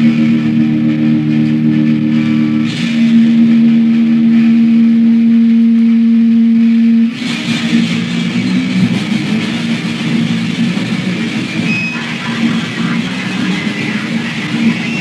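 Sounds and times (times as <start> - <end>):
electric guitar sustained notes: 0.0 - 15.0.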